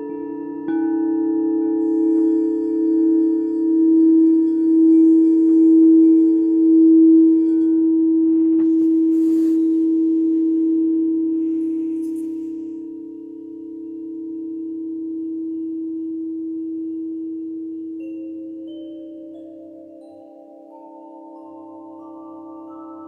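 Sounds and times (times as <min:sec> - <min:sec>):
singing bowl ringing: 0:00.0 - 0:23.0.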